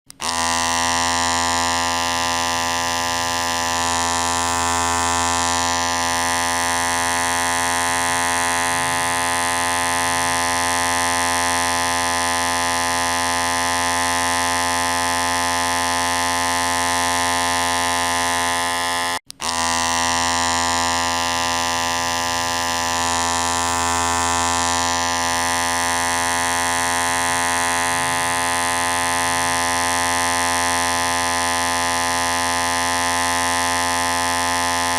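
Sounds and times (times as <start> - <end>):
electric hair clipper buzzing: 0.1 - 34.9.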